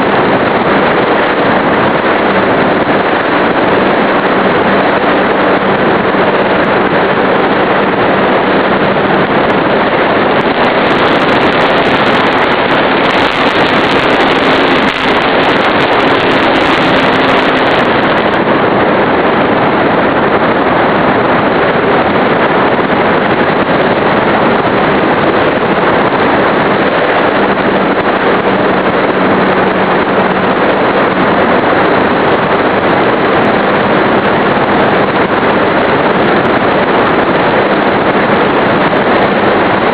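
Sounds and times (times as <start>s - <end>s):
electric motor and propeller hum: 0.0s - 39.9s
wind rush over microphone: 0.0s - 39.9s.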